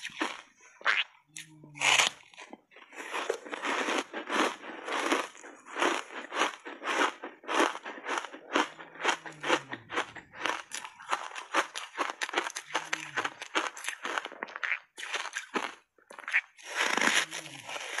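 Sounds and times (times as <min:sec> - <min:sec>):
ice being chewed: 0:01.4 - 0:18.0.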